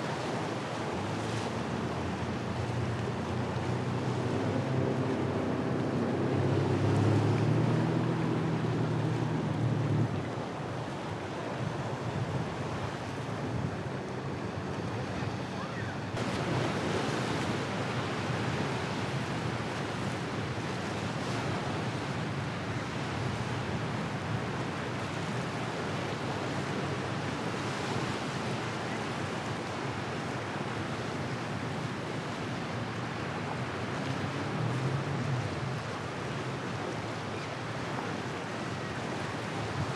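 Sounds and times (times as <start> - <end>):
boat engine hum: 0.0 - 39.9
surf: 0.0 - 39.9.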